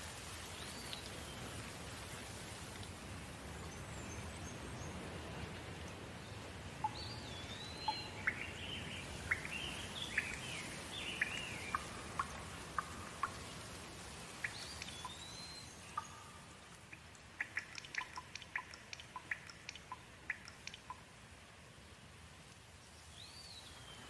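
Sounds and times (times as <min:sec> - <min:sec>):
rain hiss: 0:00.0 - 0:24.0.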